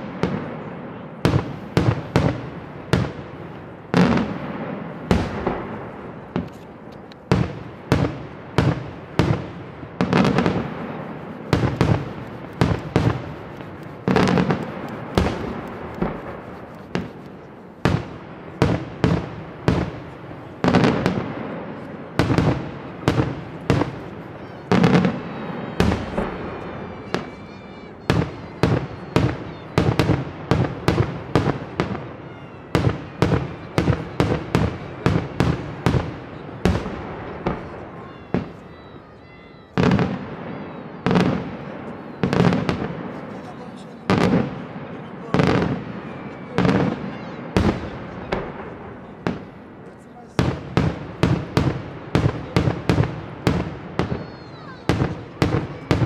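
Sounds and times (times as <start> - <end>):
fireworks bangs with echo: 0.0 - 56.0.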